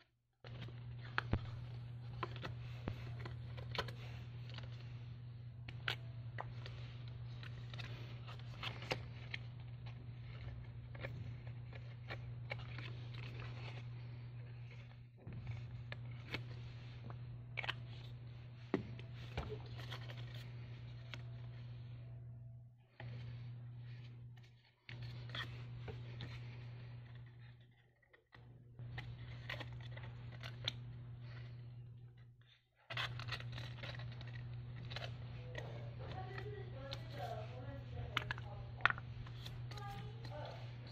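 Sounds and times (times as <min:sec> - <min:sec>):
low steady hum: 0:00.0 - 0:40.9
paper crinkling: 0:00.4 - 0:22.2, 0:22.9 - 0:31.9, 0:32.8 - 0:40.9.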